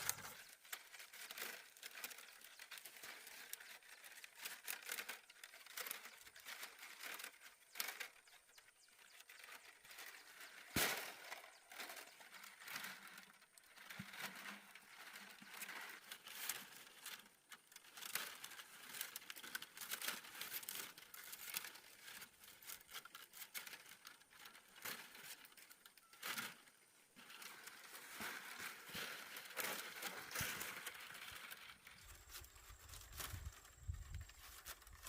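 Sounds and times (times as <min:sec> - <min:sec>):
bamboo strips rustling and clicking: 0:00.0 - 0:35.0.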